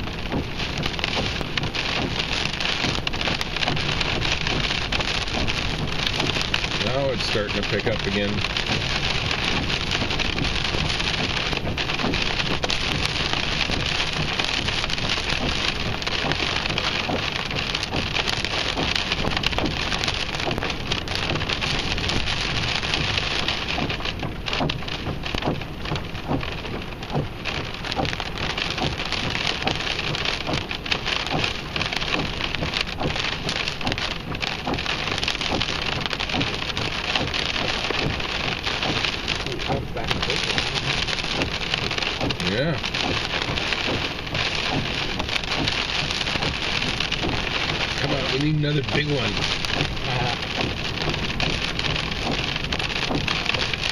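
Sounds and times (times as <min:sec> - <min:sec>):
rain patter on hard surface: 0:00.0 - 0:53.9
roar of wind-driven rain: 0:00.0 - 0:53.9.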